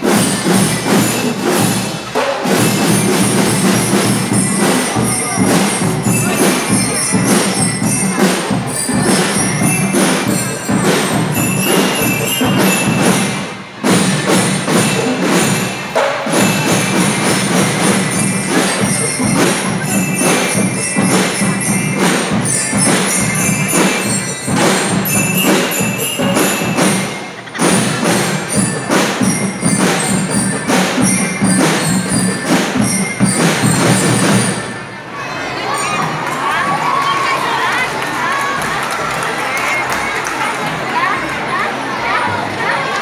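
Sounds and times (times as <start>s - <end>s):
snare and bass drums marching: 0.0s - 34.7s
bell lyres playing tune: 0.0s - 37.7s.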